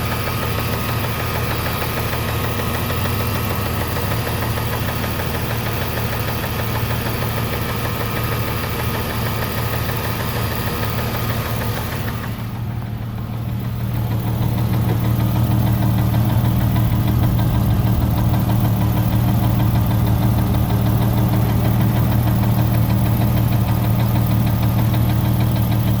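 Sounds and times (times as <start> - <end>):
car engine idling with ticking: 0.0 - 26.0
low engine hum: 0.0 - 26.0.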